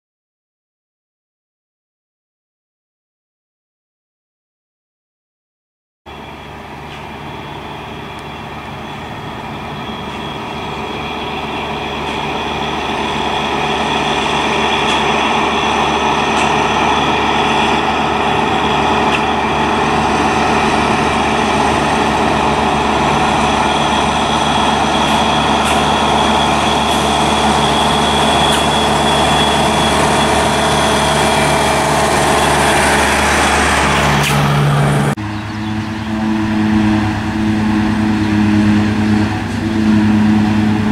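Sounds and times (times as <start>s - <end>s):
tractor diesel engine passing: 6.1s - 40.9s.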